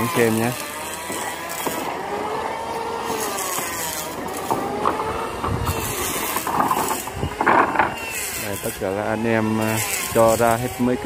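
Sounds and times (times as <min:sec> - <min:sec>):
motor whine: 0:00.0 - 0:11.0.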